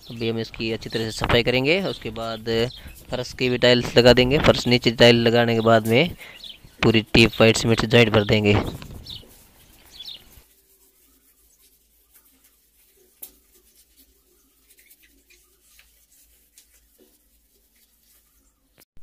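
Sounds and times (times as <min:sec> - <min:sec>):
hand wiping ceramic tiles: 0:00.0 - 0:18.7.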